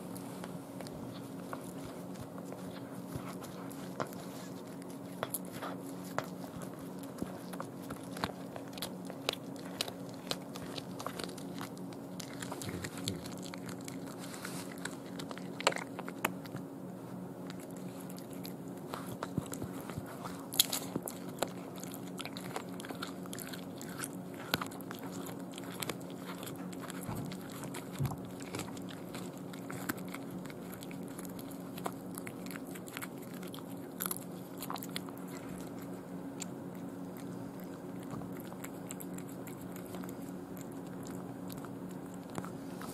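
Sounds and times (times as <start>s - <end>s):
cat crunching bones: 0.0s - 42.9s
steady low hum: 0.0s - 42.9s.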